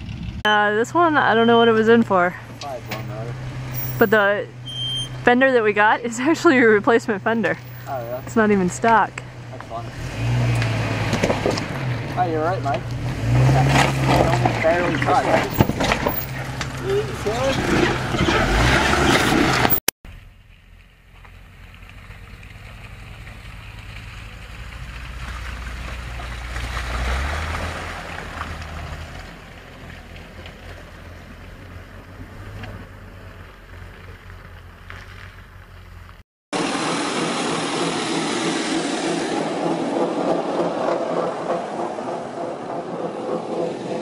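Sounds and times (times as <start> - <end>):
truck engine revving: 0.0 - 19.9, 21.8 - 36.0, 36.6 - 44.0
rough loud engine: 0.0 - 44.0.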